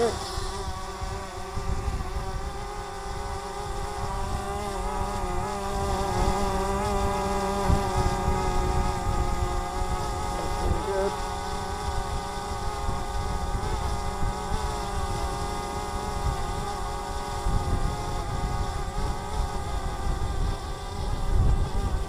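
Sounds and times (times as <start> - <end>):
drone propeller whine: 0.0 - 22.0
wind rumble on microphone: 0.0 - 22.0.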